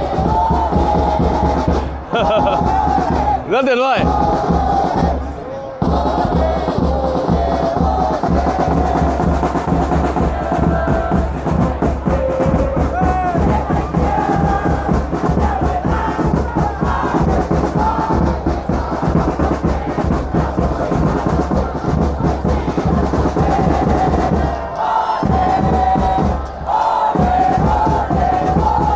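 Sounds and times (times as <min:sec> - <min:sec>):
drums beating fast: 0:00.0 - 0:05.2, 0:05.8 - 0:28.9
crowd chanting: 0:00.0 - 0:28.9.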